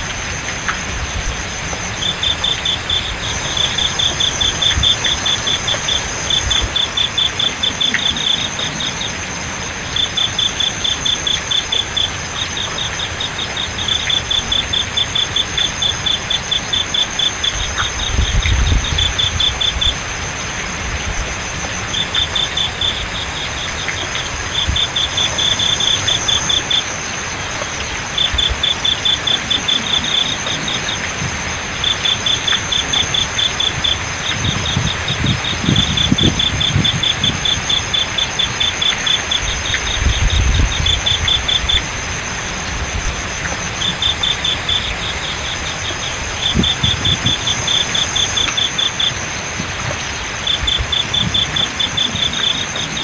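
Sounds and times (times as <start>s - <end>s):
crickets chirping: 0.0s - 53.0s
flowing water hiss: 0.0s - 53.0s
high insect trill: 0.0s - 53.0s.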